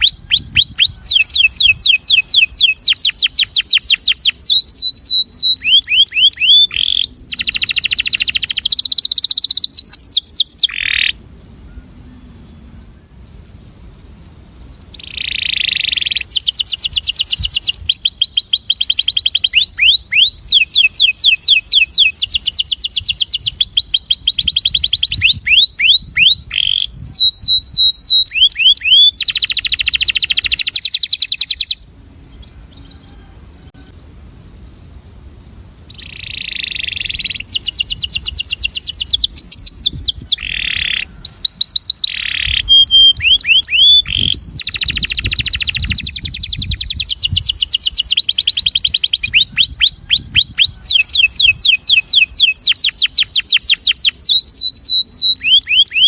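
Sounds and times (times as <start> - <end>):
canary singing: 0.0 - 33.8, 35.9 - 56.0.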